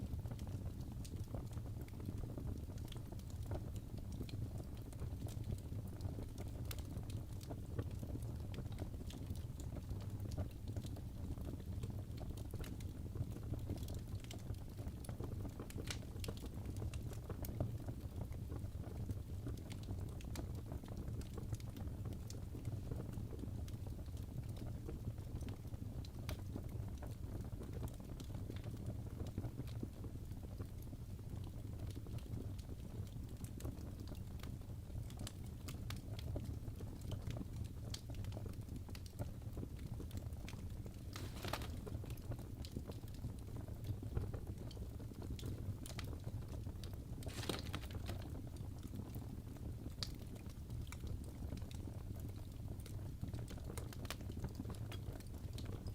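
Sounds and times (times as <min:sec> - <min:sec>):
fire crackling and popping: 0:00.0 - 0:55.9
low rumble of flames: 0:00.0 - 0:55.9.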